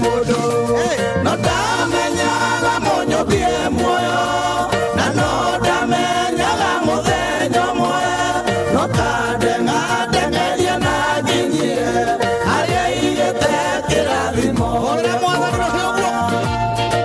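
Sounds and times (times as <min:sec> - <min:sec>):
man singing into microphone: 0:00.0 - 0:16.8
backing music with steady beat: 0:00.0 - 0:17.0.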